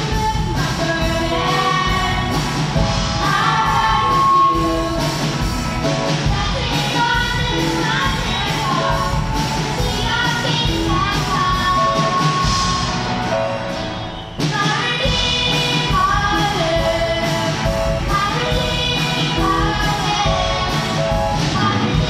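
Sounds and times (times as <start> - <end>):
voices singing: 0.0 - 5.3, 6.0 - 12.6, 14.4 - 22.0
live band playing: 0.0 - 22.0.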